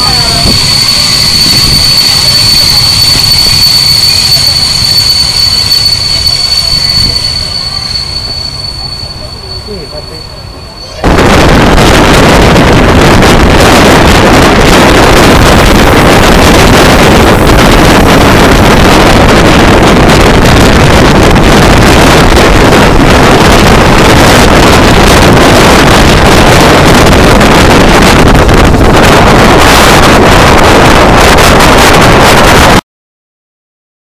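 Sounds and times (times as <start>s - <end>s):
wind buffeting microphone: 0.0s - 8.2s, 11.0s - 32.8s
train running on rails: 0.0s - 32.8s.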